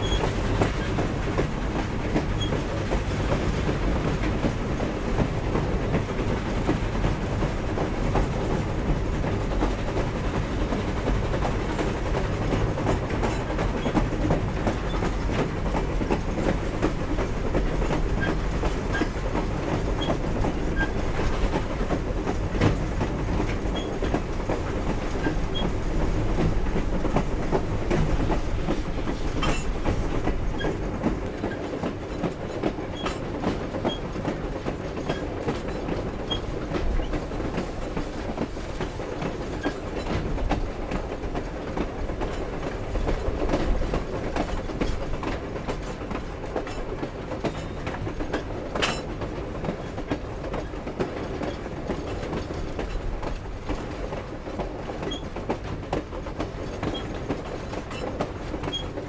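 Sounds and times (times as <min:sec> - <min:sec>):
train cars clanking and rattling: 0:00.0 - 0:59.0
train cars rumbling on track: 0:00.0 - 0:59.0
wheels clicking over rails: 0:10.7 - 0:59.0.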